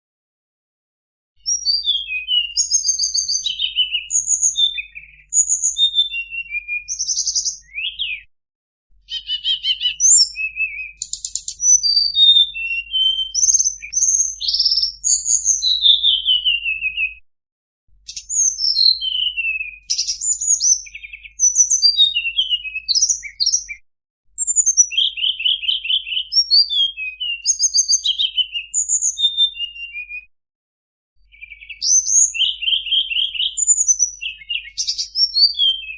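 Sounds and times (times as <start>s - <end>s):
bird song with whistles and trills: 1.4s - 8.3s, 8.9s - 17.2s, 17.9s - 23.8s, 24.4s - 30.3s, 31.2s - 35.9s.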